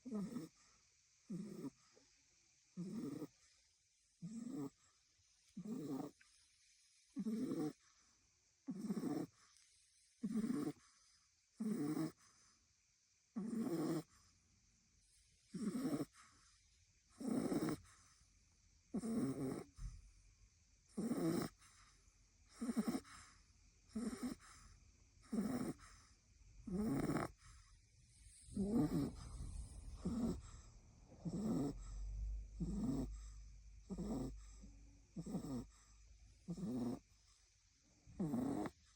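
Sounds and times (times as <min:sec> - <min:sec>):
puppy snoring: 0:00.0 - 0:02.1, 0:02.7 - 0:12.7, 0:13.3 - 0:14.4, 0:15.0 - 0:20.1, 0:20.8 - 0:38.9.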